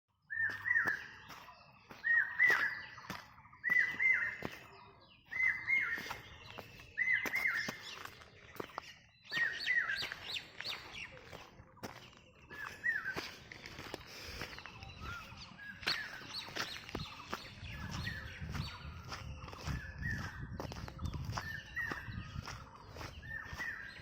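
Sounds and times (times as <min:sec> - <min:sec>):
birds chirping: 0:00.1 - 0:24.0.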